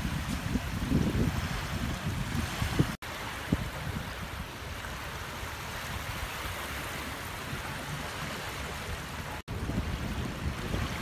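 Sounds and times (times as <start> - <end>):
waves washing onto beach: 0.0 - 11.0
wind rumble on microphone: 0.0 - 11.0.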